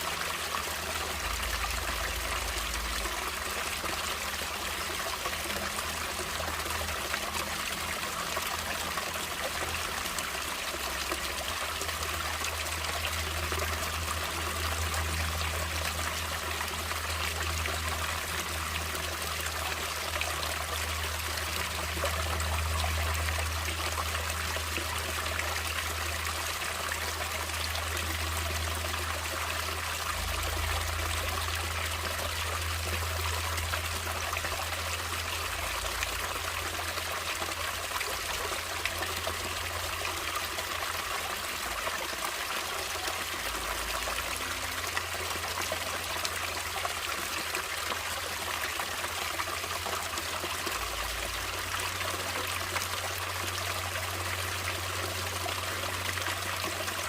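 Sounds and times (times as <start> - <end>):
stream water splashing over rocks: 0.0 - 57.0.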